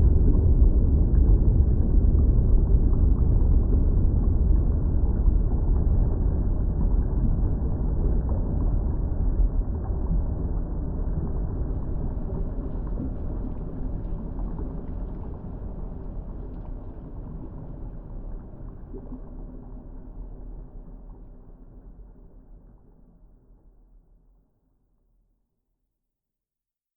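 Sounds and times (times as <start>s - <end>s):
lava bubbling deep churning: 0.0s - 23.3s.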